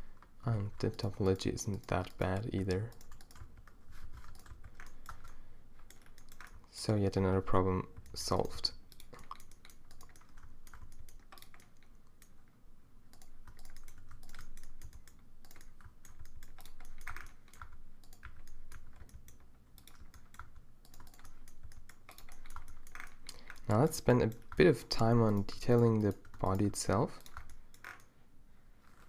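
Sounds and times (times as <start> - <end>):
keyboard and mouse clicking: 0.2 - 6.8, 7.8 - 12.5, 13.1 - 28.1.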